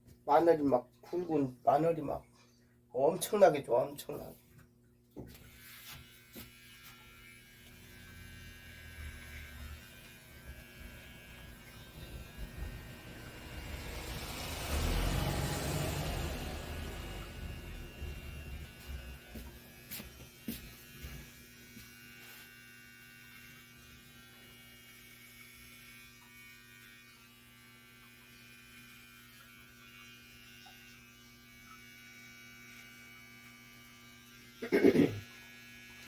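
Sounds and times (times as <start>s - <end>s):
electric hair clippers buzzing: 5.4s - 36.0s.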